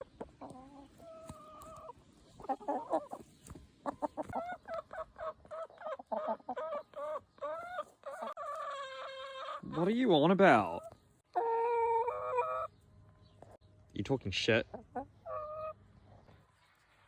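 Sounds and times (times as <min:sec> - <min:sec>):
hen clucking: 0:00.0 - 0:13.6, 0:14.5 - 0:16.4.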